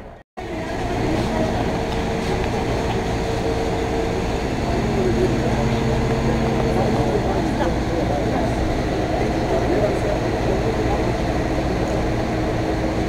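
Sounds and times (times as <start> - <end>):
fire truck engine running: 0.0 - 13.0.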